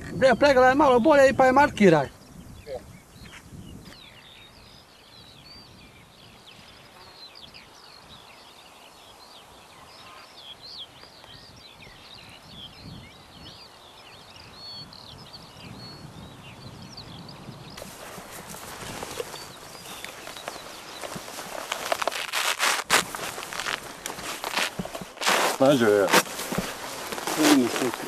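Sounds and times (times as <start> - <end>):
birds chirping and trilling: 0.0 - 28.0.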